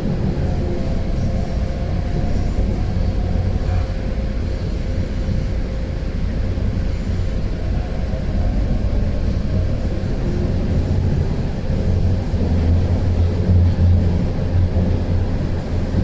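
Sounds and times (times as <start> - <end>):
faint steady whine: 0.0 - 16.0
train wheels rumbling on rail: 0.0 - 16.0.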